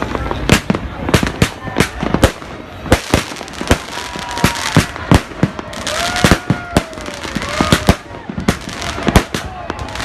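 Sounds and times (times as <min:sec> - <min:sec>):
fireworks banging and cracking: 0:00.0 - 0:10.0.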